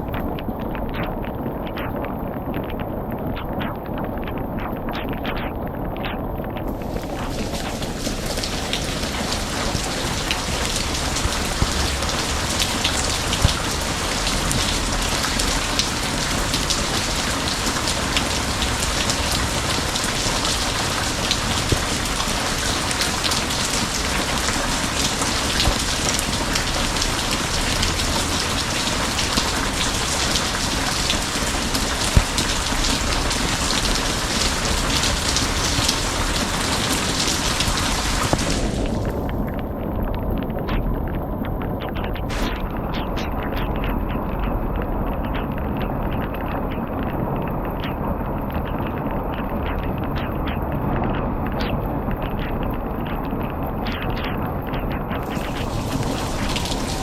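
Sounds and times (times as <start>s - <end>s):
sharp rain drop taps: 0.0s - 57.0s
steady rain pattering: 0.0s - 57.0s.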